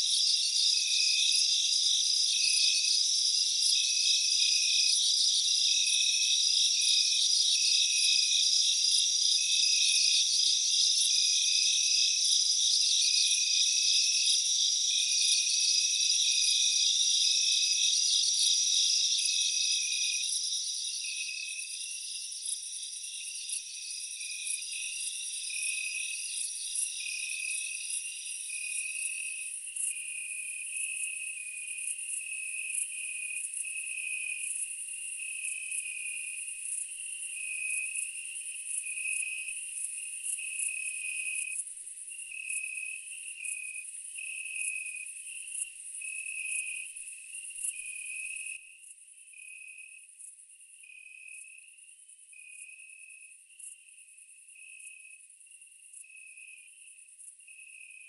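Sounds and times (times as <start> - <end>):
insects chirping in trills: 0.0 - 58.0.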